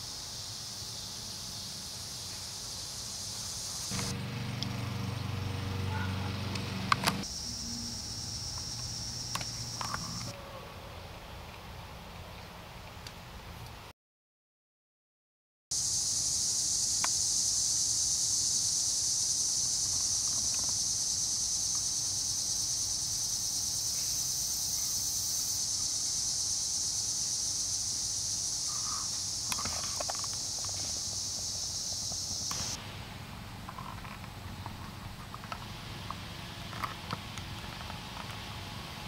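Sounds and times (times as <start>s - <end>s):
insects buzzing chorus: 0.0s - 10.4s, 15.8s - 39.0s.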